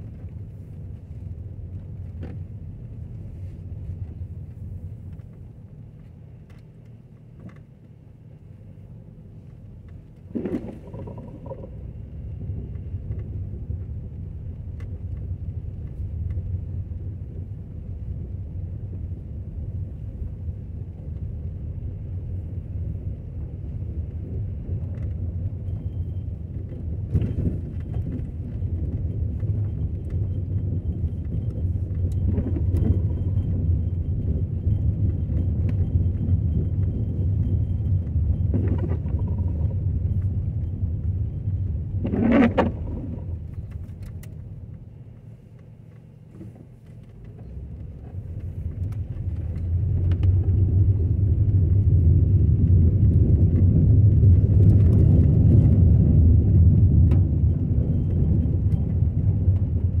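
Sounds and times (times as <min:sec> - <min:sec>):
car road and engine rumble: 0:00.0 - 1:00.0.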